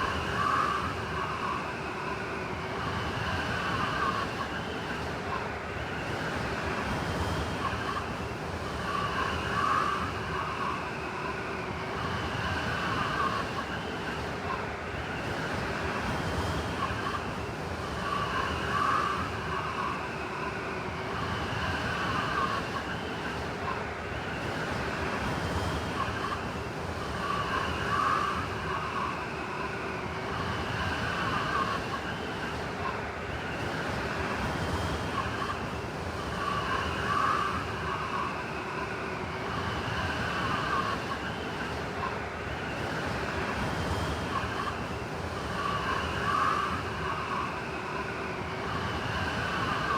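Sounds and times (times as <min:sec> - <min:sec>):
howling blizzard wind: 0:00.0 - 0:49.9.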